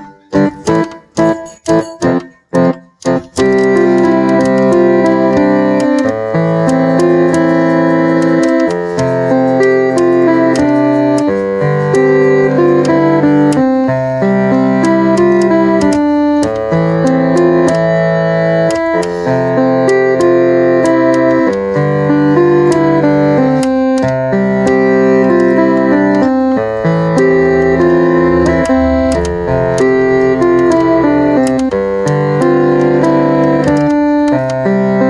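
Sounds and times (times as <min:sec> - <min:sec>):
piano chords: 0:00.0 - 0:35.0.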